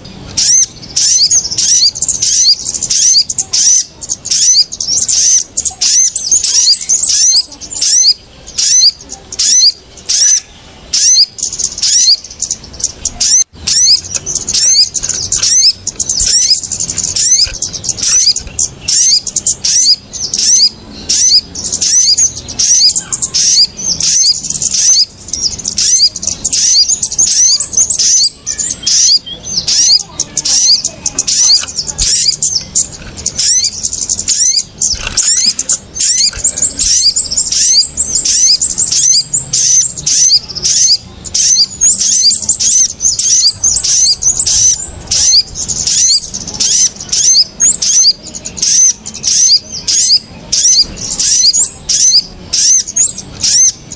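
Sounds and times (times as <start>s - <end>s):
birds chirping excitedly: 0.0s - 53.9s.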